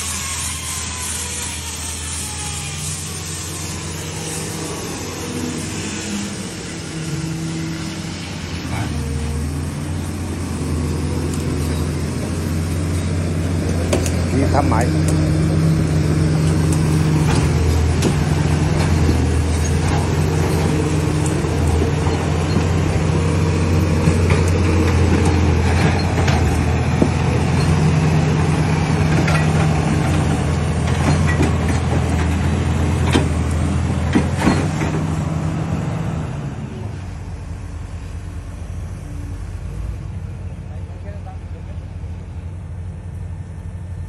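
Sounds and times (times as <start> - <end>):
large engine humming: 0.0 - 44.0.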